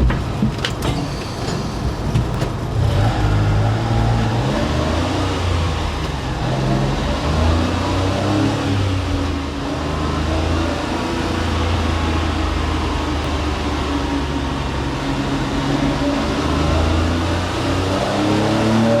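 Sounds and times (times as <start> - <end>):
small truck engine buzzing: 0.0 - 19.0.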